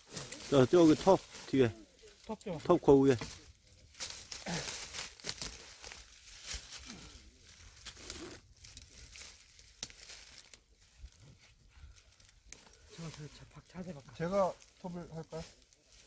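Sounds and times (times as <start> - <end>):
dry leaves and twigs rustling: 0.0 - 16.0.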